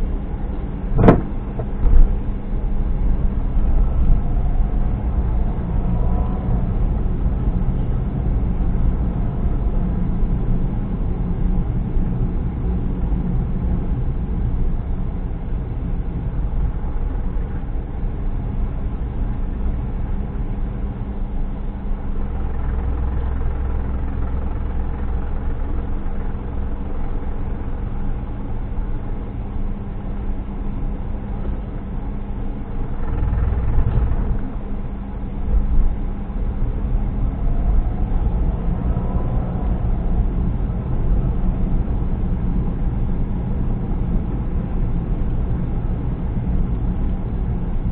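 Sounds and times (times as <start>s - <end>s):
car engine and road noise: 0.0s - 47.9s.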